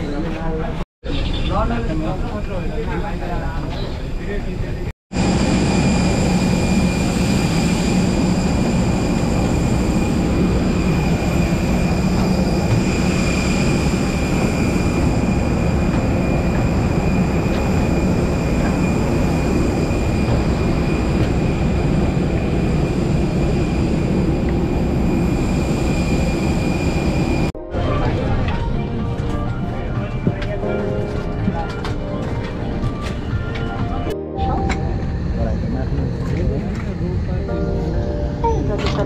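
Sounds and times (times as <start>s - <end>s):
jet airliner rumble and whine: 2.1s - 39.0s.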